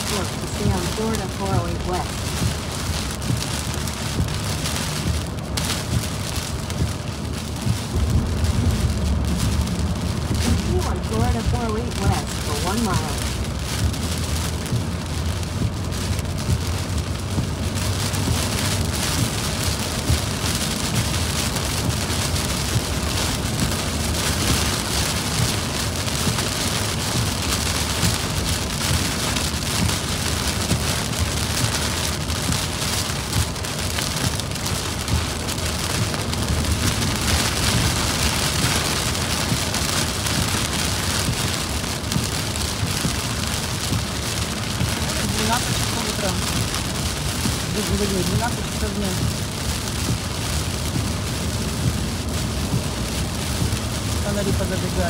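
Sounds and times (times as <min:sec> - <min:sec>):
heavy rain on a moving car: 0:00.0 - 0:55.0
tyres rumbling on wet road: 0:00.0 - 0:55.0.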